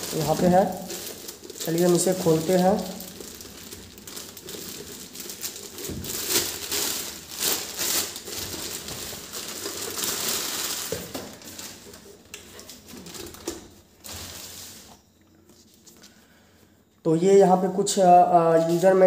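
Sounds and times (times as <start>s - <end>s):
plastic bag crinkling: 0.0s - 15.0s, 18.2s - 19.0s.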